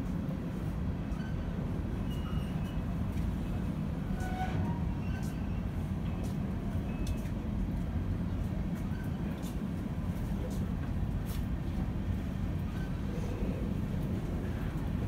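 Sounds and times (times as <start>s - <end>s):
train cars rumbling over rails: 0.0s - 15.0s.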